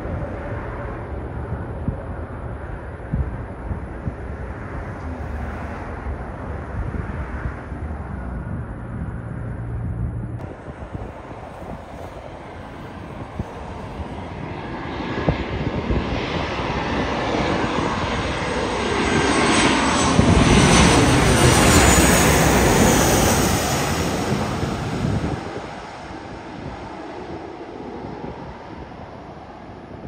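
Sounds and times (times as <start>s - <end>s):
jet airliner passing overhead: 0.0s - 30.0s
jet engine whine: 0.0s - 30.0s.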